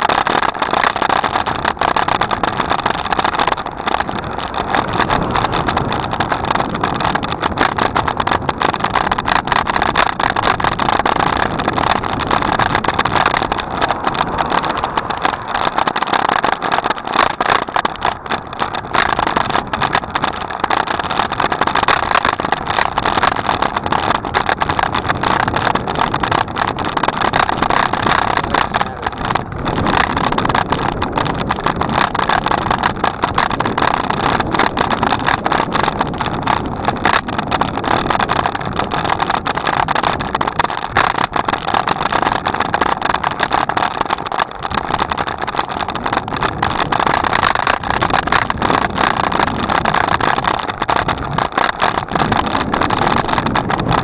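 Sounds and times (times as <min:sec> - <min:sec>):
bicycle rushing noise with crackles: 0:00.0 - 0:54.0.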